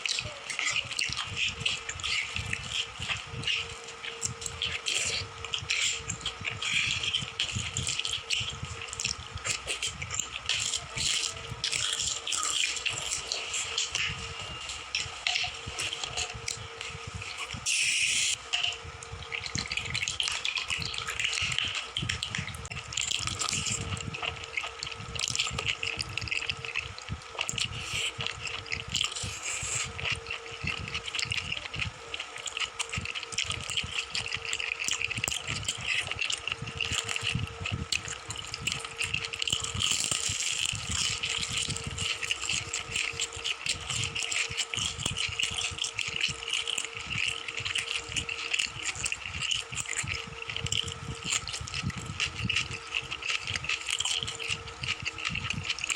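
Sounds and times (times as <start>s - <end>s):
chewing and crunching: 0.0s - 55.9s
faint steady hum: 0.0s - 55.9s.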